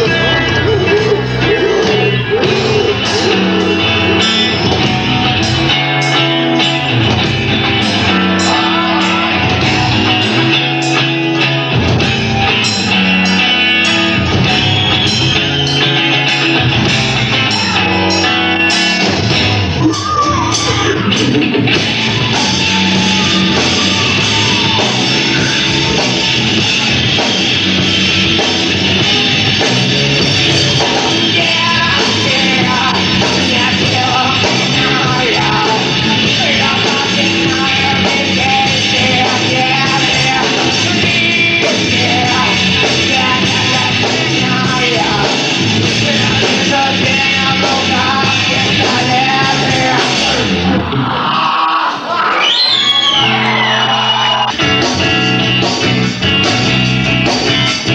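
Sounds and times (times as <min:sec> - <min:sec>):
person singing and shouting: 0:00.0 - 0:05.4, 0:07.6 - 0:11.8, 0:13.3 - 0:19.1, 0:19.7 - 0:27.3, 0:28.8 - 0:54.6
electric guitars: 0:00.0 - 0:57.9
rock band playing live: 0:00.0 - 0:57.9.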